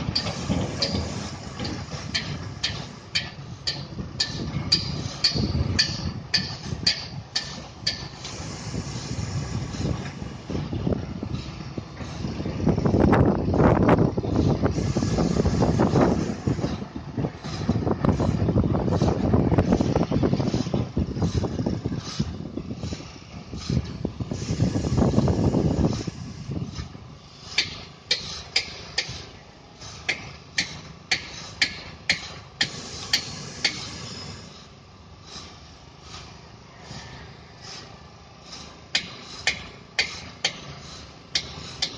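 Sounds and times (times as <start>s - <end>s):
diesel engine rumbling: 0.0s - 41.9s.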